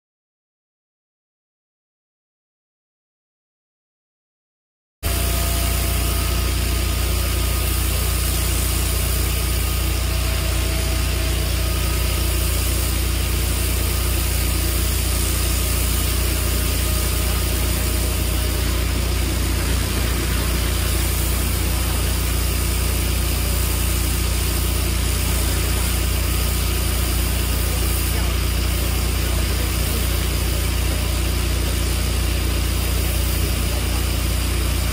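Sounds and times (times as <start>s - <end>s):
pressure washer engine humming: 5.0s - 34.9s
high-pressure water jet hissing: 5.1s - 34.9s.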